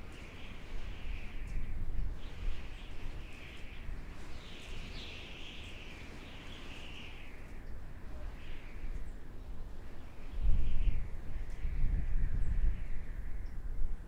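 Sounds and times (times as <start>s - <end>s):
howling wind: 0.0s - 14.0s.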